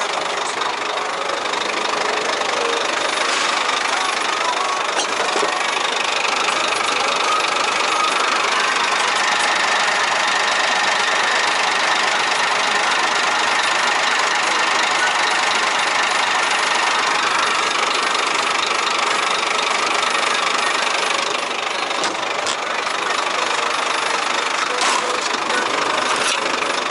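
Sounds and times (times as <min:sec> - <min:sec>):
diesel truck engine idling: 0:00.0 - 0:26.9.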